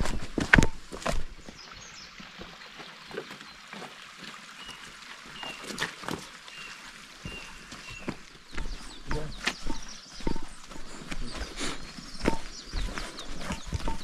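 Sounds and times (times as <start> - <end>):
footsteps on forest trail: 0.0 - 14.0.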